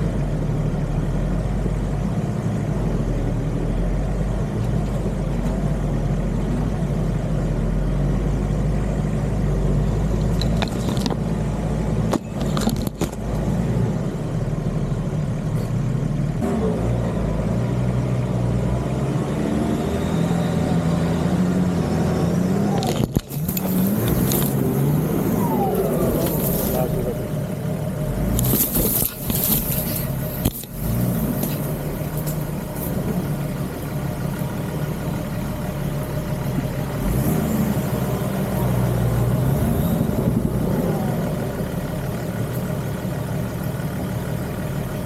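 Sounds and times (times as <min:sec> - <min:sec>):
engine running under load: 0:00.0 - 0:45.0.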